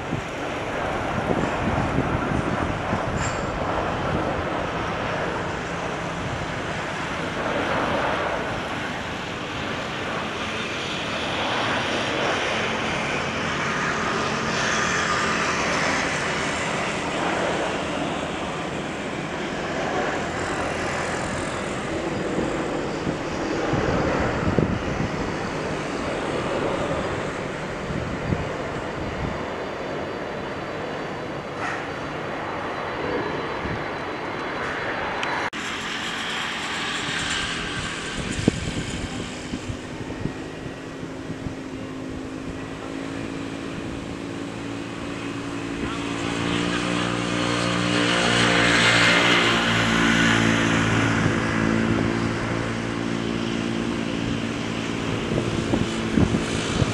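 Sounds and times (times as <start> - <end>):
jet engines rumbling: 0.0 - 56.9.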